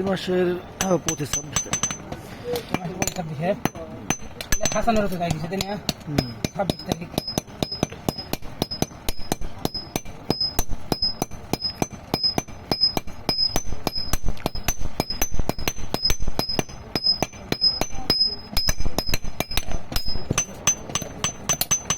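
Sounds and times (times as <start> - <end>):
hammers striking iron on anvil: 0.8 - 21.9.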